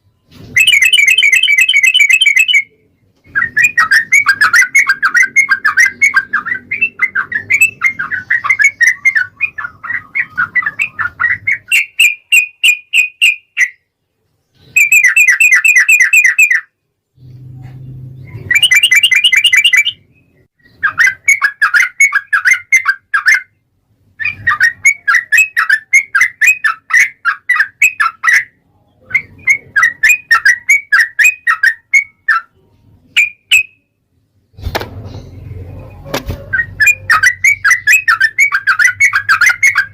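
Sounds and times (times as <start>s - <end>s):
bird singing chattering phrases: 0.6s - 13.9s, 14.5s - 33.7s, 35.0s - 39.9s.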